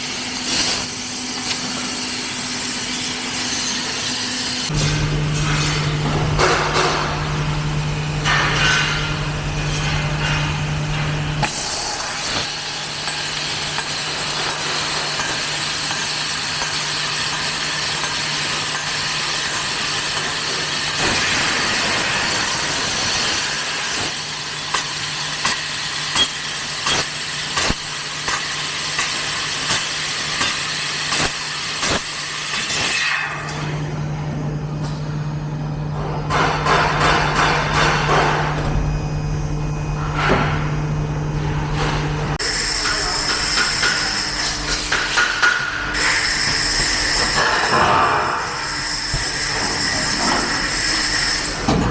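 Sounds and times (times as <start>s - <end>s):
laser cutting machine hiss and hum: 0.0s - 8.4s, 9.0s - 34.0s, 38.1s - 51.9s.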